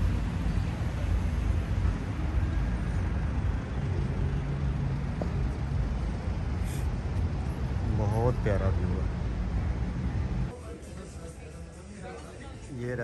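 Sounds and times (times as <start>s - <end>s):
engine hum: 0.0s - 10.6s
city road traffic rumble: 0.0s - 13.0s.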